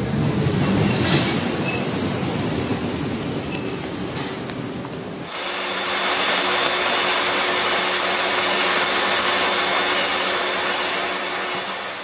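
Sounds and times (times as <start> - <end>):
train rushing: 0.0 - 12.0.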